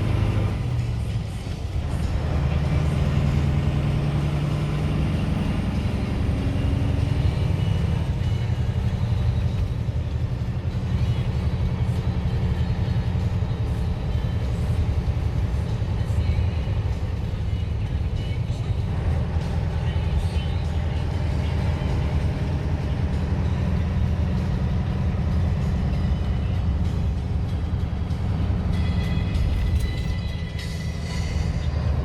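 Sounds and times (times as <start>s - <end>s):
diesel truck engine under load: 0.0s - 32.0s.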